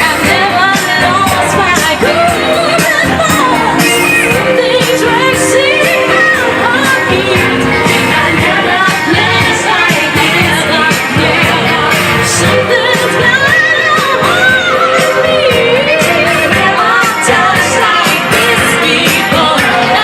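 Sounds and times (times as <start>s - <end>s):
song with sung vocals: 0.0s - 20.0s.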